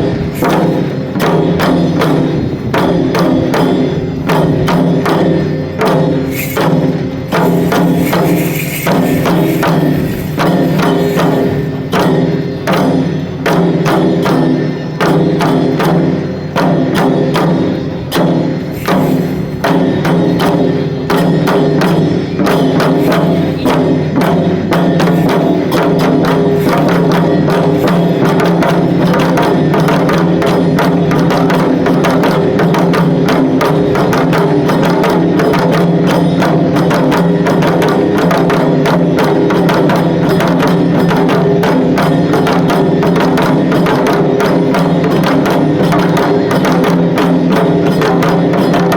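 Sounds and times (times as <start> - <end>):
loud festival drumming: 0.0 - 48.9.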